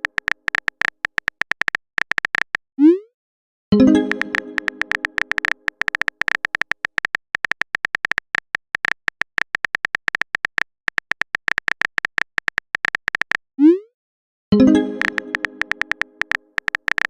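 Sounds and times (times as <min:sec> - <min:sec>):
taps on smartphone keyboard: 0:00.0 - 0:02.6, 0:04.0 - 0:13.4, 0:15.0 - 0:17.0.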